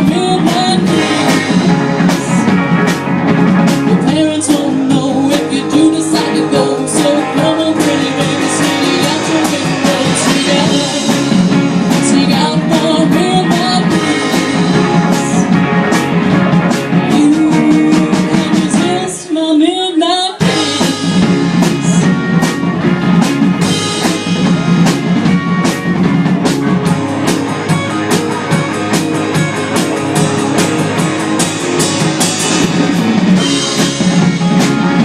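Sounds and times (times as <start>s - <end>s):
drum kit beat: 0.0s - 19.4s, 20.3s - 35.0s
electric guitar: 0.0s - 35.0s
rock band playing: 0.0s - 35.0s.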